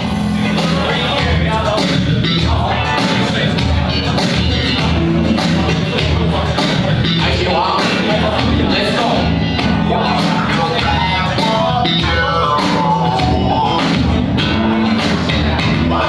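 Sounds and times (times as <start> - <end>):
guitar: 0.0 - 16.0
loud funk music: 0.0 - 16.0
person singing: 0.0 - 16.0.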